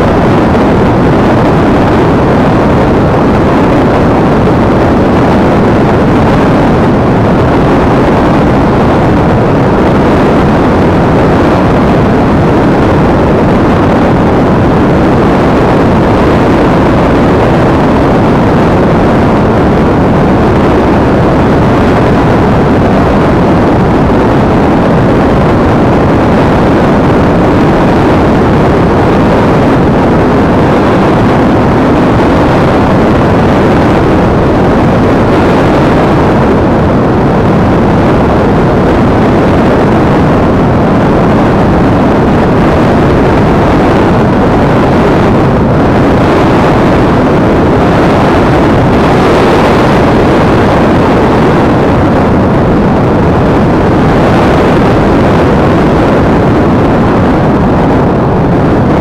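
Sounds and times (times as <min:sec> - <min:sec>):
rush of airflow: 0:00.0 - 0:59.0.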